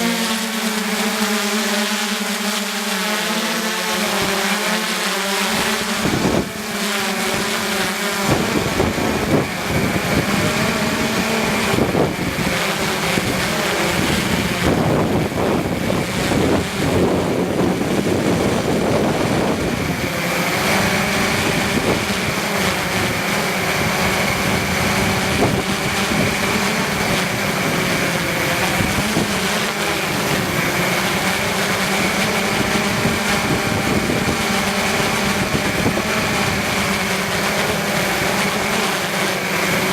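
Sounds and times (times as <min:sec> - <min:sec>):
drone propellers humming: 0:00.0 - 0:39.9
wind buffeting microphone: 0:05.6 - 0:38.9.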